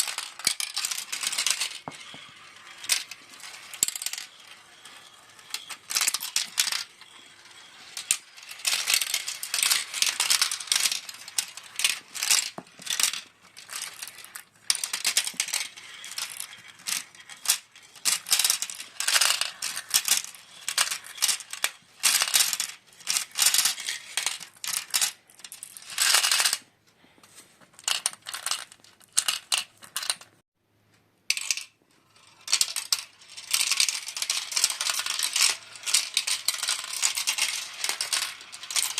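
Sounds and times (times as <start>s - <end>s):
marbles rattling down plastic track: 0.0s - 26.6s, 27.7s - 30.4s, 31.3s - 38.9s.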